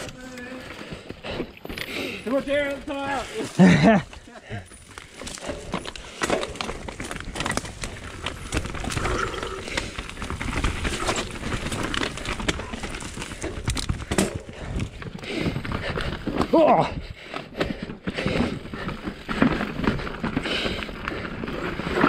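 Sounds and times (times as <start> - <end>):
bike knocking and rattling: 0.0 - 22.0
tyres running over dirt: 0.0 - 22.0.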